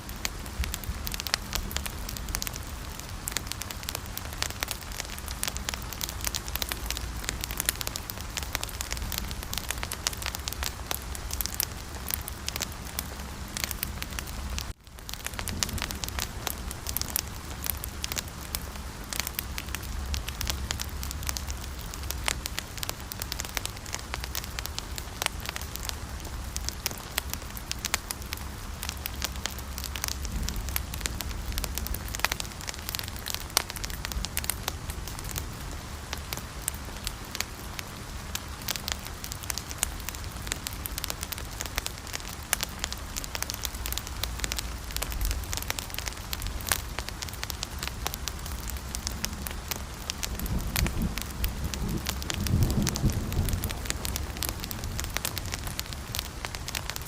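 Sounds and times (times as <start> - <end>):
sharp pops and snaps of fire: 0.0 - 57.0
wood fire crackling: 0.0 - 57.0.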